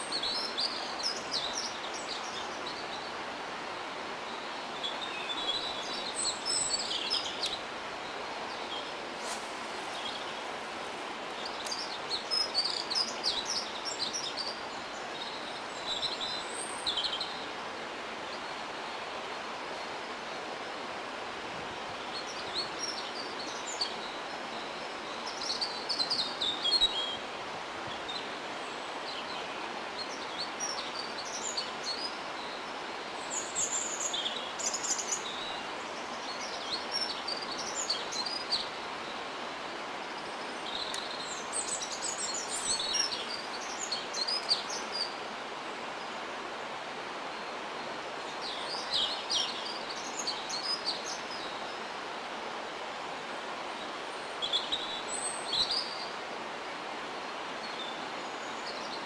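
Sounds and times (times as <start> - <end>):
small songbirds twittering: 0.0 - 59.0
steady background hiss: 0.0 - 59.0.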